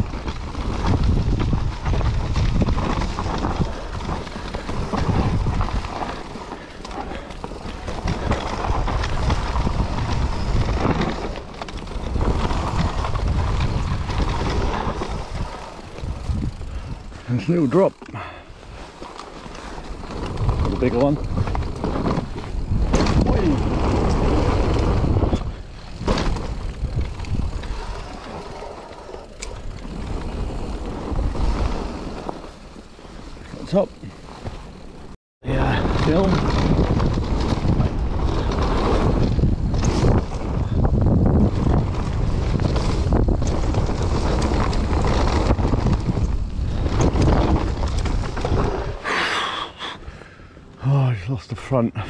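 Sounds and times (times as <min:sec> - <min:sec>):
wind buffeting microphone: 0:00.0 - 0:17.5, 0:19.6 - 0:32.4, 0:33.2 - 0:49.1
tyres rumbling over dirt: 0:00.0 - 0:49.6.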